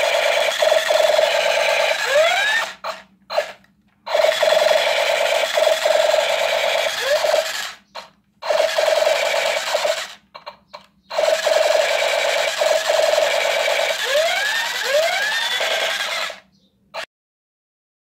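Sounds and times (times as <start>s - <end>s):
toy gun buzzing rattle: 0.0s - 17.1s.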